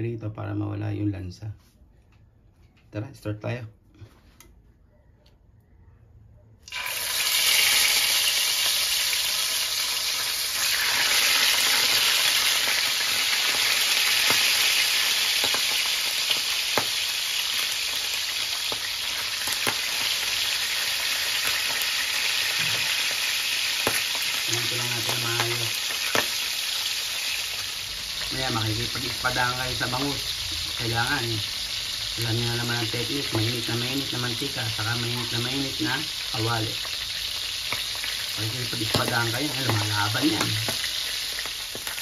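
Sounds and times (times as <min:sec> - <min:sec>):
fish sizzling in hot oil: 0:06.7 - 0:42.0.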